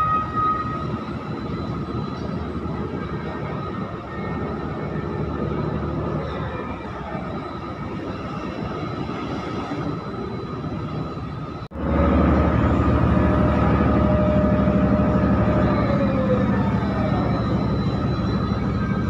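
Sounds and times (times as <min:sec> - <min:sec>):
diesel machinery engines running: 0:00.0 - 0:19.0
high-pitched whine: 0:00.0 - 0:19.0.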